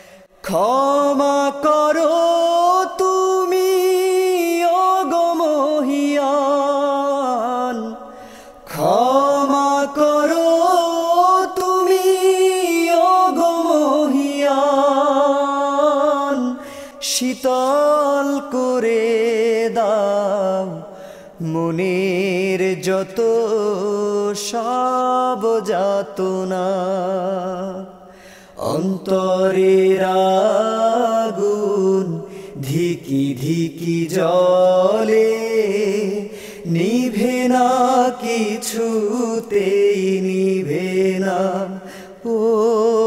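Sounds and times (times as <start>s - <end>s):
man singing unaccompanied: 0.4s - 43.0s.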